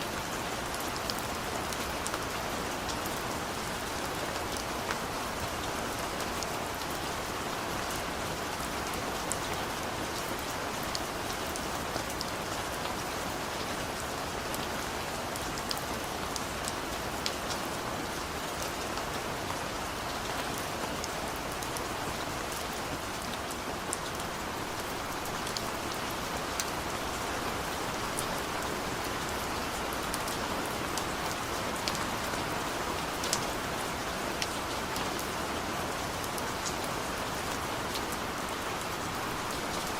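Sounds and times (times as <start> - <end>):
steady rain falling: 0.0 - 39.9
sharp ticks of raindrops: 0.1 - 39.9.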